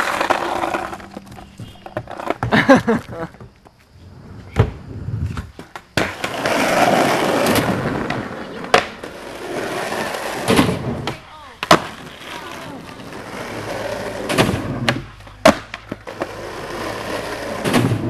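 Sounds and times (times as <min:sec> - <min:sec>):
skateboard popping and landing: 0:00.0 - 0:03.8, 0:04.5 - 0:18.0
skateboard wheels rolling on asphalt: 0:00.0 - 0:18.0.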